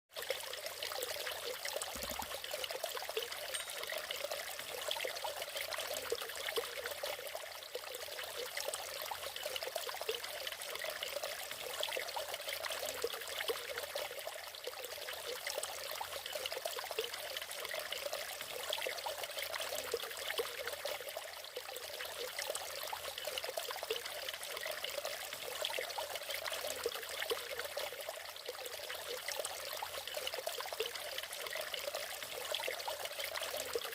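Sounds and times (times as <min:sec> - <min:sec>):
waterfall pouring and splashing: 0:00.2 - 0:33.9.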